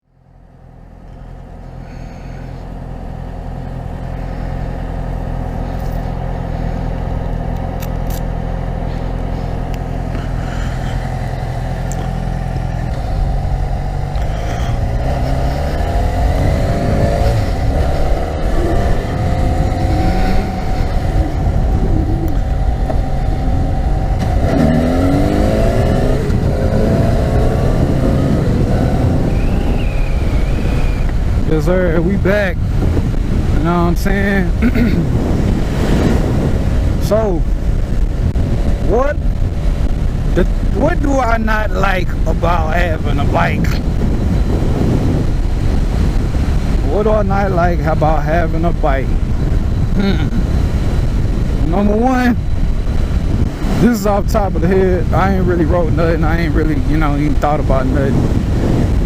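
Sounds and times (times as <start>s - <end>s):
motorcycle engine revving: 0.4s - 59.0s.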